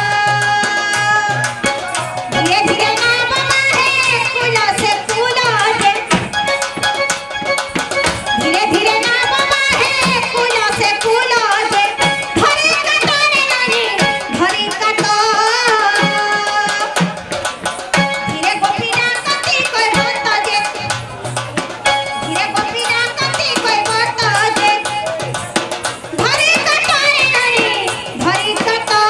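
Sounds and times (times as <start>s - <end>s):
woman singing: 0.0s - 6.6s, 8.3s - 17.2s, 18.0s - 20.9s, 22.1s - 25.2s, 26.2s - 29.0s
barrel drum: 0.0s - 29.0s.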